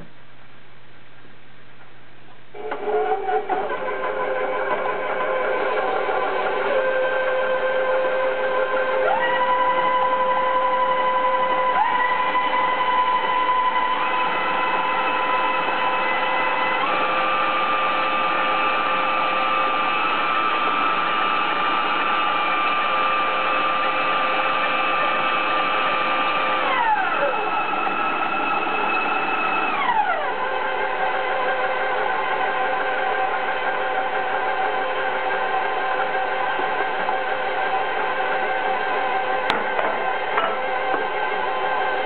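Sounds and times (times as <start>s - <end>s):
stand mixer motors whining: 2.5s - 42.0s.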